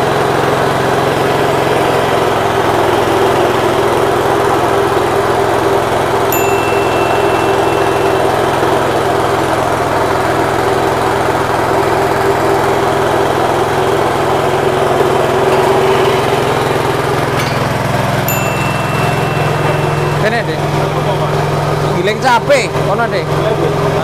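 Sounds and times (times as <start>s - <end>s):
small petrol engine running: 0.0s - 24.0s.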